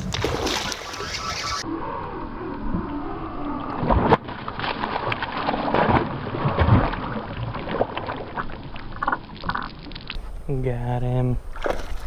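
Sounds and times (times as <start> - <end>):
water splashing and sloshing: 0.0 - 1.7, 2.5 - 10.4, 11.4 - 12.0.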